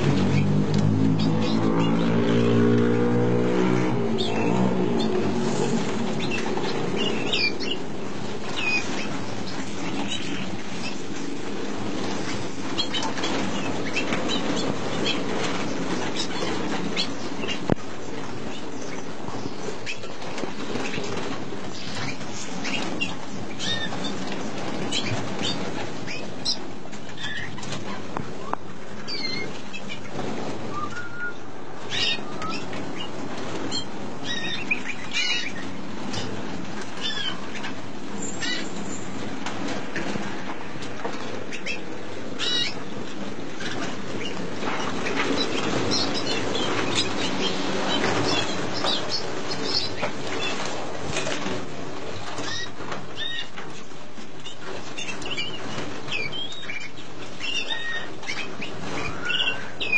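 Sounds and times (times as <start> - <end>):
canaries chirping: 0.0 - 59.9
steady background noise: 0.0 - 59.9
wings fluttering: 0.0 - 59.9.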